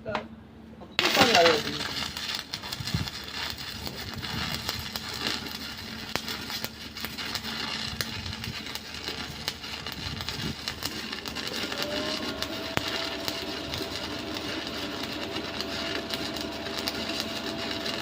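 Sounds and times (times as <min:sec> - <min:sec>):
sharp welding pops: 0:01.0 - 0:18.0
welding arc crackling: 0:01.0 - 0:18.0.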